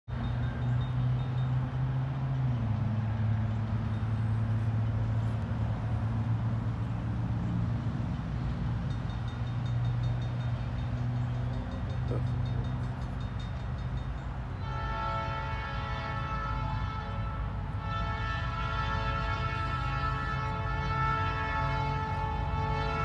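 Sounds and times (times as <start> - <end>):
diesel locomotive engine drone: 0.1 - 23.0.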